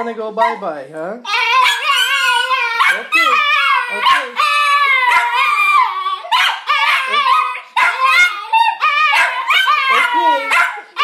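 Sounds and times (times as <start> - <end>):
small dogs howling and yipping: 1.3 - 11.0.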